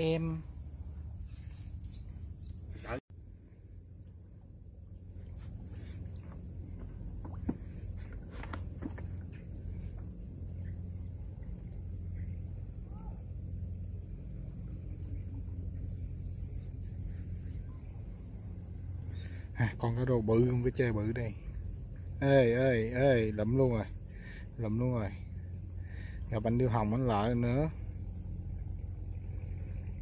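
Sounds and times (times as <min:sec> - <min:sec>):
high insect drone: 0:00.0 - 0:30.0
low even rumble: 0:00.0 - 0:30.0.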